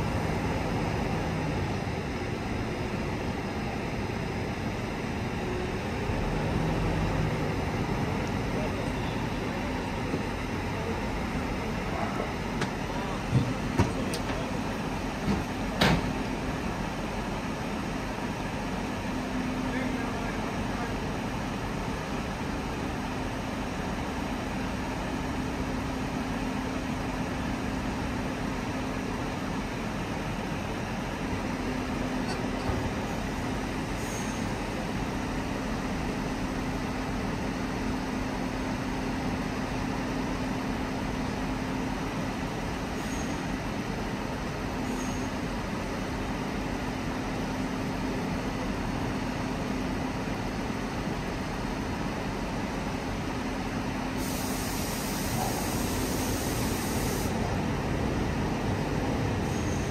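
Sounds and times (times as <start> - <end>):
crane engine drone: 0.0 - 59.9.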